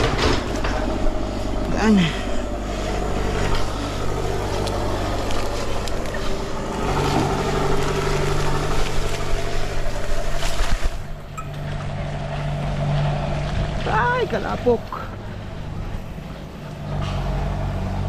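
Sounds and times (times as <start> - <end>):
bike clicking and rattling: 0.0 - 2.0, 2.6 - 18.0
bike mechanical hum: 0.0 - 18.0.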